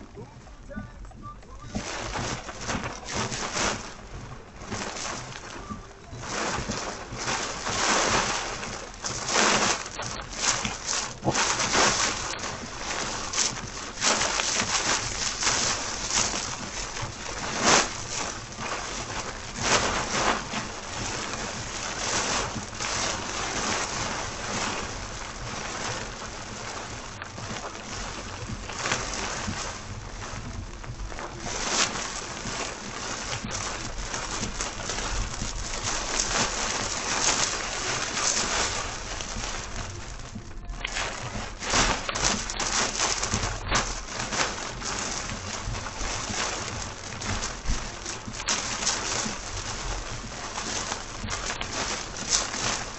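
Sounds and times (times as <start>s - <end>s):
heavy rain drumming on car roof: 0.0s - 52.9s.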